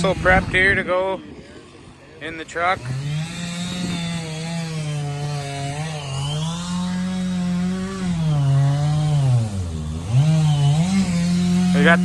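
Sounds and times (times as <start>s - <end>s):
cut-off wheel cutting steel: 2.2s - 12.0s.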